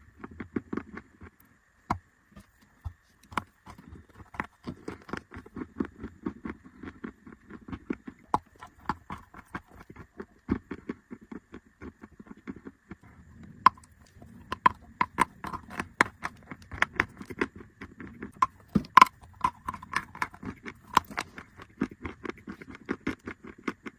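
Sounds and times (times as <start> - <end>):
chewing chalk crunches: 0.0 - 23.9.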